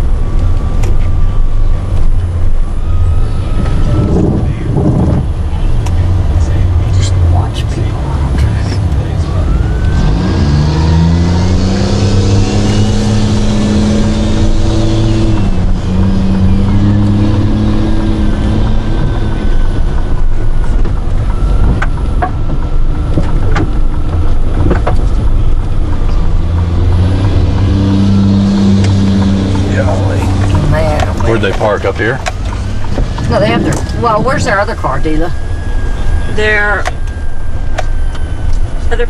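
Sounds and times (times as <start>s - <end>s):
car engine accelerating: 0.0s - 39.0s
road noise inside car: 0.0s - 39.0s.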